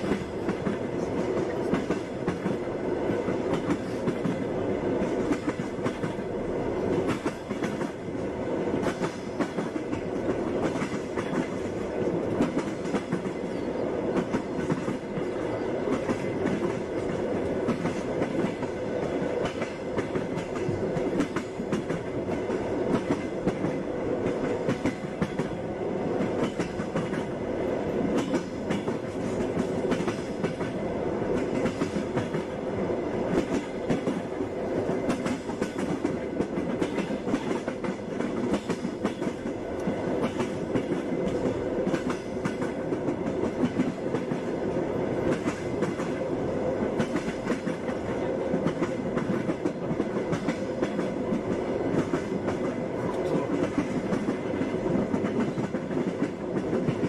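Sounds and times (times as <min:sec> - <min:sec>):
train wheels clattering over rail joints: 0:00.0 - 0:06.3, 0:08.7 - 0:32.6, 0:33.3 - 0:44.5, 0:46.9 - 0:57.0
railway car rumble: 0:00.0 - 0:57.0.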